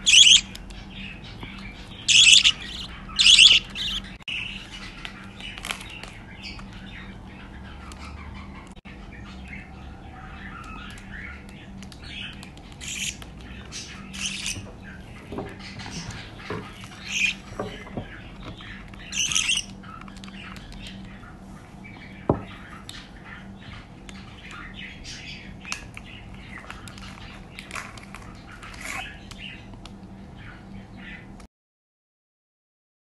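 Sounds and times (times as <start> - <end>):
bird chicks chirping: 0.0 - 31.4.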